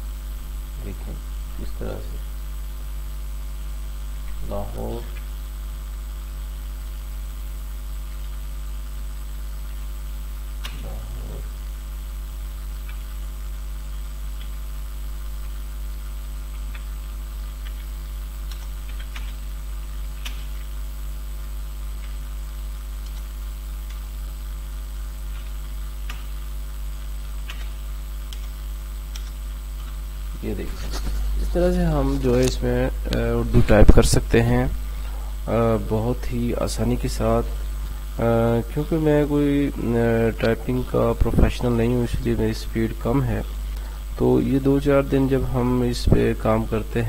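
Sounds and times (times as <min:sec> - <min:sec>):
electrical mains hum: 0:00.0 - 0:47.0.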